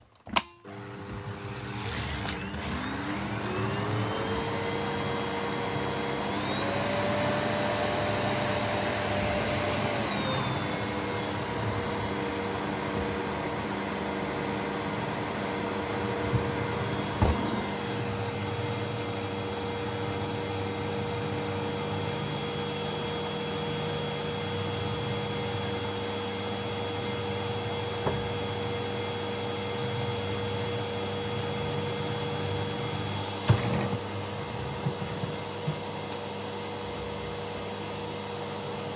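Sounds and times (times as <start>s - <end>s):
vacuum cleaner motor whining: 0.4s - 38.9s.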